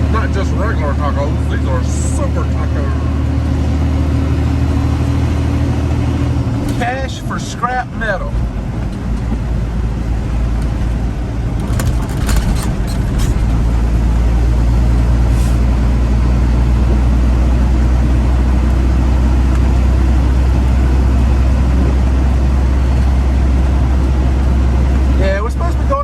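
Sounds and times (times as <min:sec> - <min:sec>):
diesel engine drone: 0:00.0 - 0:26.0.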